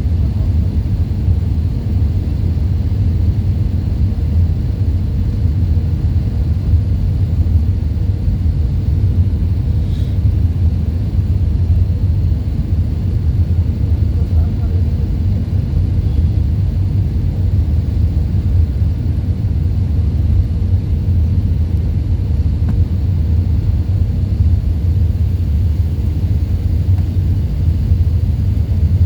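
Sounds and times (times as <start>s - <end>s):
airplane landing rumble: 0.0s - 29.0s.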